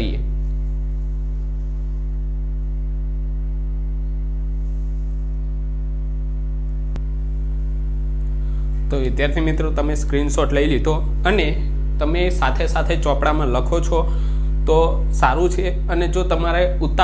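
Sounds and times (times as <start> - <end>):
low buzzy electrical hum: 0.0 - 17.0.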